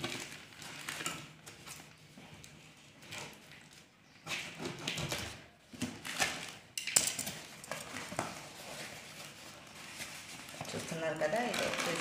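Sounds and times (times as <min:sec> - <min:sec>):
packing tape ripping off cardboard: 0:00.0 - 0:12.0.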